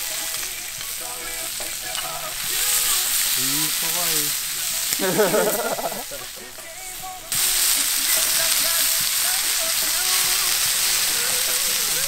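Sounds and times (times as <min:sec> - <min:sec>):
pork sizzling in a skillet: 0:00.0 - 0:12.0.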